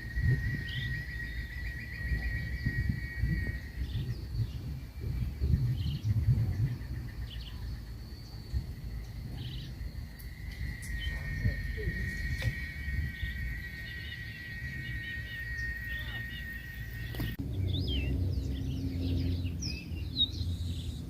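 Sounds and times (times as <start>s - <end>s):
bird chirps: 0.0s - 21.0s
low rumble of noise: 0.0s - 21.0s
pulsing insect trill: 0.0s - 21.0s.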